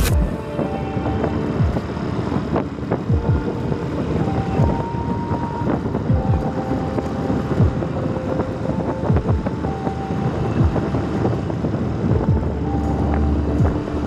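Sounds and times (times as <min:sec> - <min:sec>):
vehicle rumble: 0:00.0 - 0:14.0
wind on microphone: 0:00.0 - 0:14.0.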